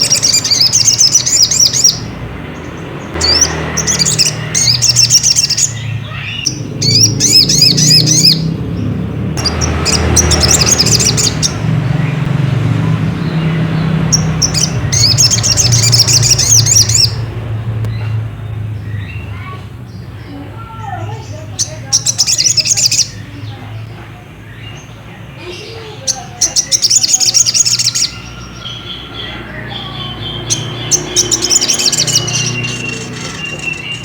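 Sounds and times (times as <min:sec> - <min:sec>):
bird high chirping trills: 0:00.0 - 0:34.0.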